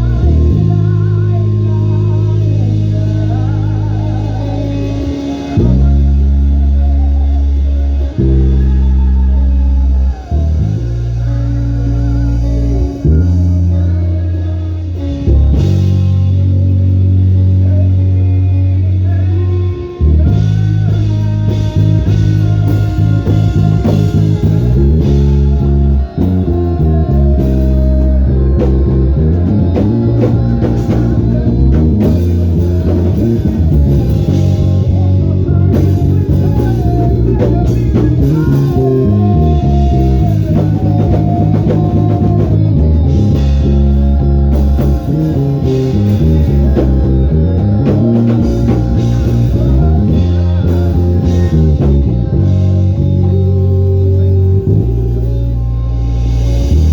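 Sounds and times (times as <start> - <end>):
band music: 0.0 - 56.9
bass guitar low notes: 0.0 - 56.9.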